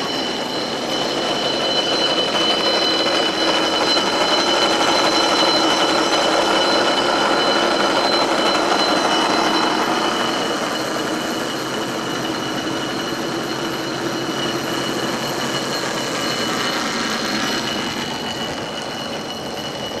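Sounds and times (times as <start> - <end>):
cable car running on rails: 0.0 - 20.0
crossing warning bell ringing: 0.0 - 20.0.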